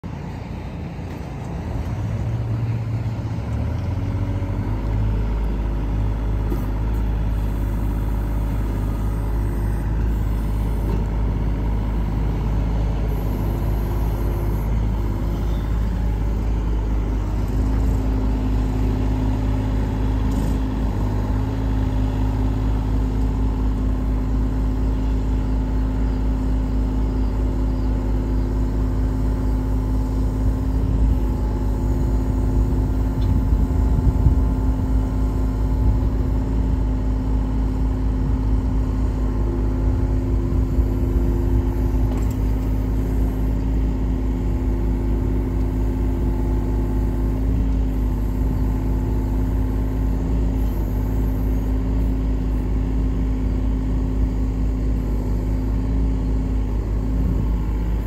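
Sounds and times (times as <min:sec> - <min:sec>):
excavator diesel engine running: 0:00.0 - 0:58.0
hydraulics working: 0:00.0 - 0:58.0
steady higher hum: 0:07.0 - 0:58.0.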